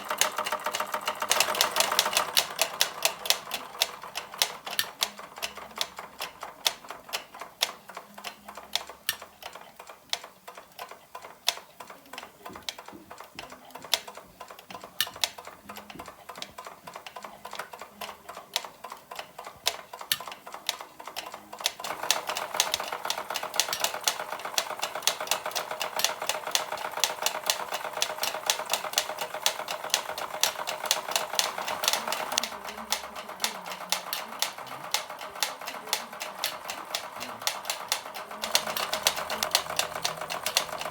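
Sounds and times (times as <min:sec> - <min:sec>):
toy steam engine tapping clatter: 0:00.0 - 0:40.9.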